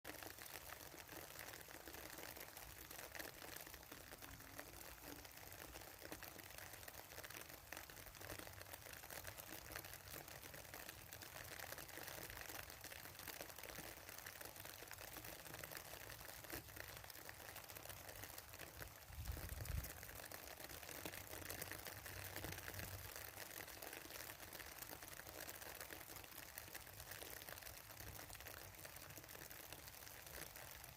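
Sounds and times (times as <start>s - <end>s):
rain falling on a pond: 0.0s - 30.9s.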